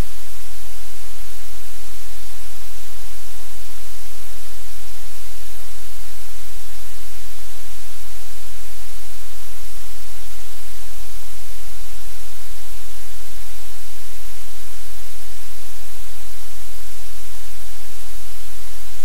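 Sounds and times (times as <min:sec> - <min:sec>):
loud static hiss: 0:00.0 - 0:19.0.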